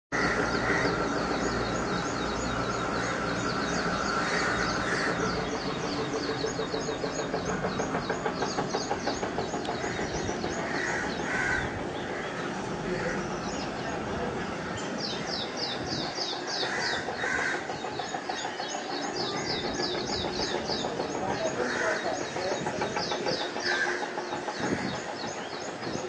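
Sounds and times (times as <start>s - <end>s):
birds chirping: 0.1s - 26.0s.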